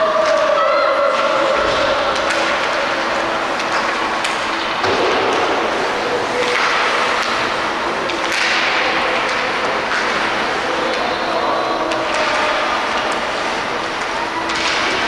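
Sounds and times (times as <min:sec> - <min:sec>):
noisy rink background: 0:00.0 - 0:15.0.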